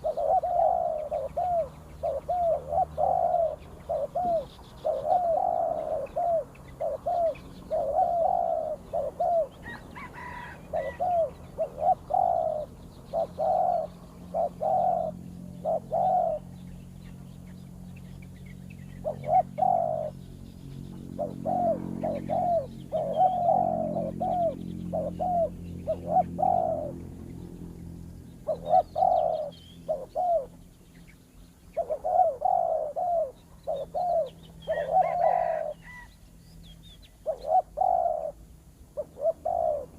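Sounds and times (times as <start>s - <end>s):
doves cooing: 0.0s - 17.5s, 18.3s - 36.2s, 37.1s - 39.9s.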